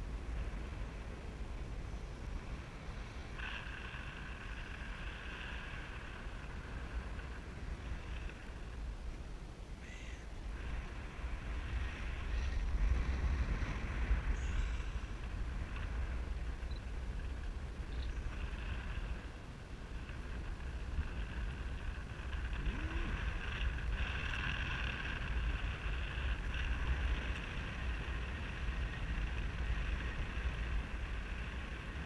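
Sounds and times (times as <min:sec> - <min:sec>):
faint high whine: 0:00.0 - 0:32.0
wind buffeting microphone: 0:00.0 - 0:32.0.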